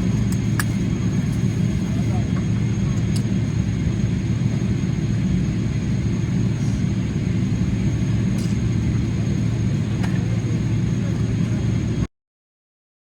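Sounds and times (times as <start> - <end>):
aircraft cabin low rumble: 0.0 - 12.1.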